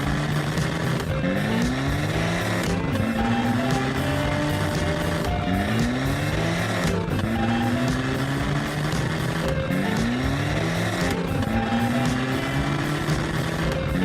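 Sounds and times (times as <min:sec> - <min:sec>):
background music: 0:00.0 - 0:14.0
truck engine revving: 0:00.0 - 0:14.0.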